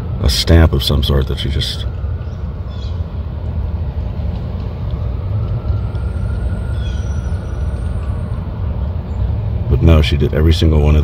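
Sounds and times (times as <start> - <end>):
faint whine: 0.0 - 11.0
passing vehicles rumbling: 0.0 - 11.0.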